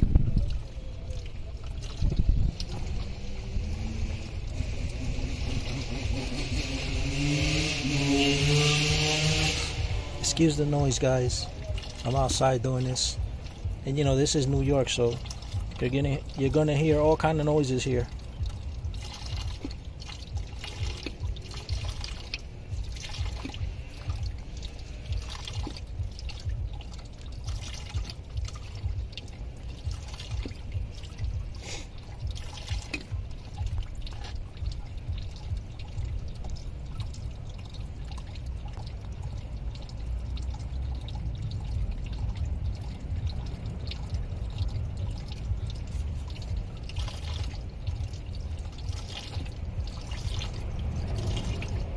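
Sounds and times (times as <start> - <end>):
coolant trickling and splashing: 0.0 - 51.9
low city background rumble: 0.0 - 51.9.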